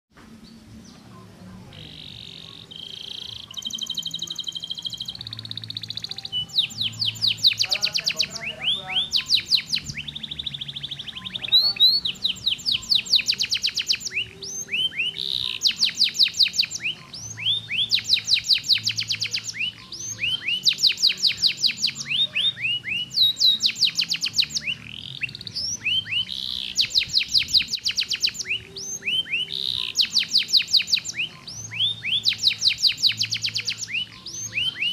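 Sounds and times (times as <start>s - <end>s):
canary singing trills: 0.5s - 34.9s.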